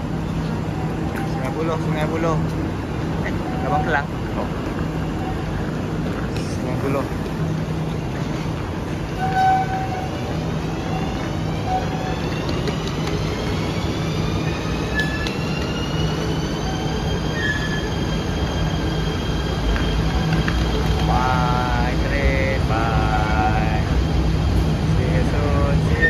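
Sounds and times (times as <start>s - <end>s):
electric train whining: 0.0s - 26.0s.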